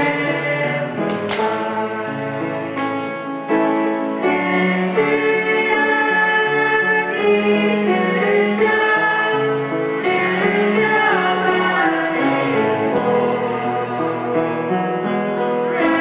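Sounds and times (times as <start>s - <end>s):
bowed cello: 0.0s - 16.0s
children singing together: 0.0s - 16.0s.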